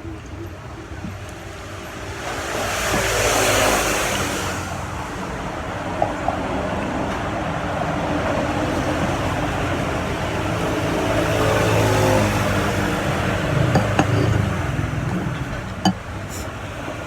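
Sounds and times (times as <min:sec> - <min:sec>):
steady traffic rumble: 0:00.0 - 0:17.0.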